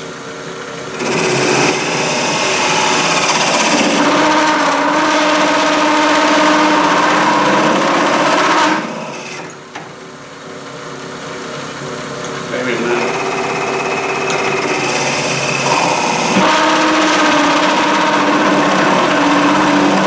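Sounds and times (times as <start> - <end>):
lathe cutting whine: 0.6 - 9.8, 10.9 - 20.0
drill bit boring into wood: 0.9 - 9.7, 12.6 - 20.0.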